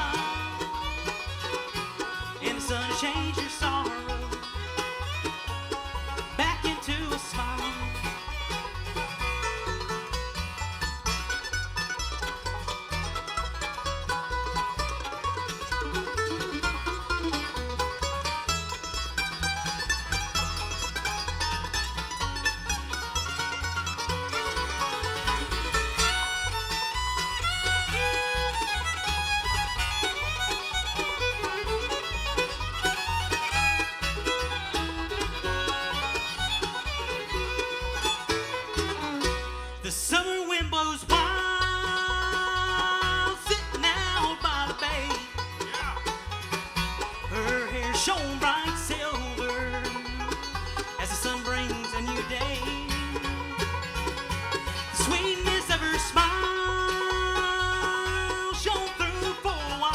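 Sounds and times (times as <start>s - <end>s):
banjo: 0.0s - 59.9s
bluegrass band playing: 0.0s - 59.9s
fiddle: 0.0s - 59.9s.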